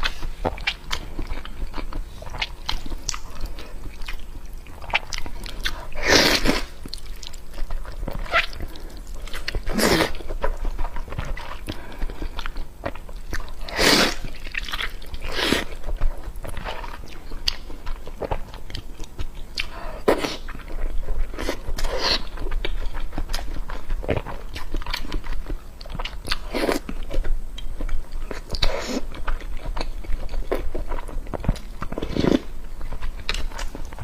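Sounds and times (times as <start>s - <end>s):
person chewing and biting: 0.0s - 34.0s.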